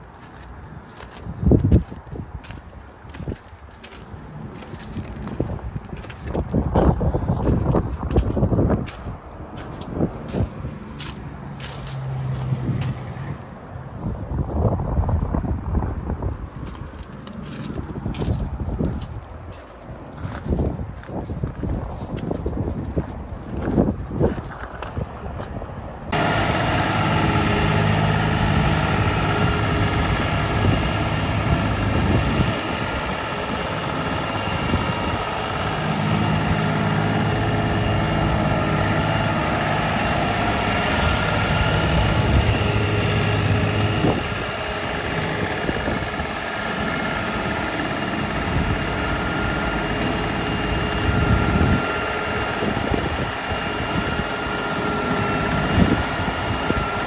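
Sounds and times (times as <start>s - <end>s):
tractor diesel engine running: 0.0s - 25.2s, 26.1s - 57.0s.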